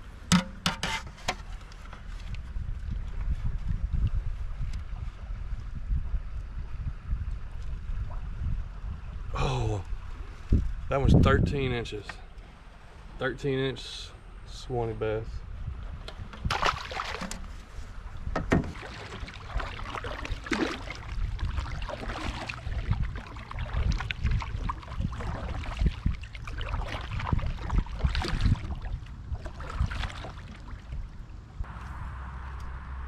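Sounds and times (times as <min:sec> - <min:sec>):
water splashing around a kayak: 0:00.0 - 0:10.9, 0:15.5 - 0:32.8.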